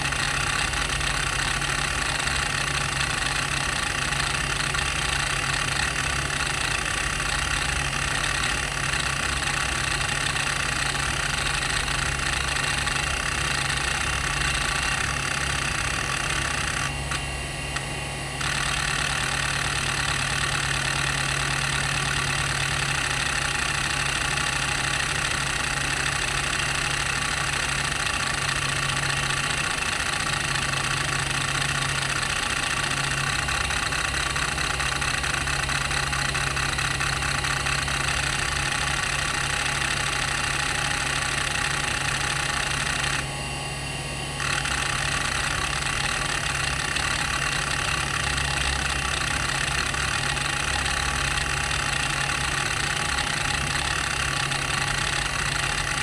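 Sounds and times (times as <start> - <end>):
hard drive platters humming: 0.0 - 56.0
hard drive seeking chatter: 0.0 - 56.0.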